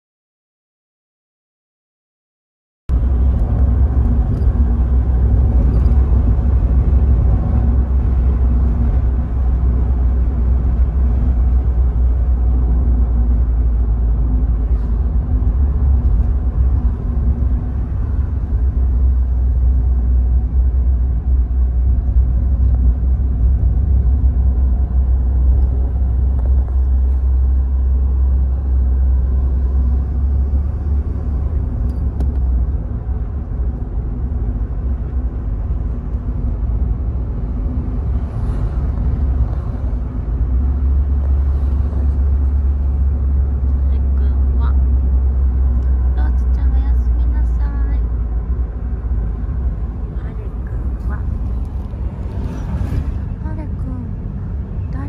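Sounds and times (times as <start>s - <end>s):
car engine: 2.9s - 55.0s
road noise: 2.9s - 55.0s.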